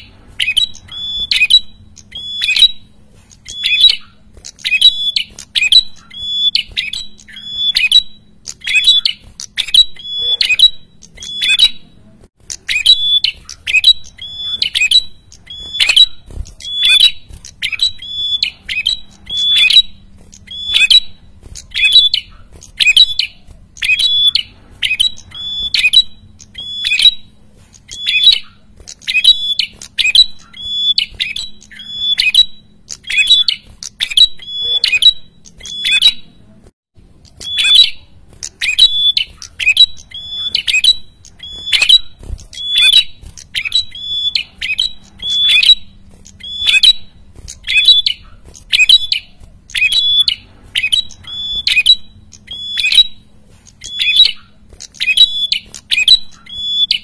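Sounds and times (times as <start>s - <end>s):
bird calling harshly: 0.0s - 36.4s, 37.3s - 57.0s.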